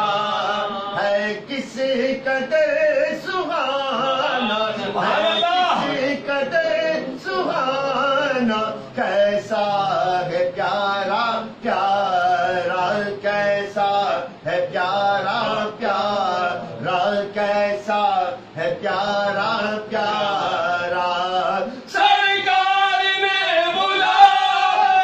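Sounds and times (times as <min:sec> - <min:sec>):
man chanting devotional verse: 0:00.0 - 0:25.0.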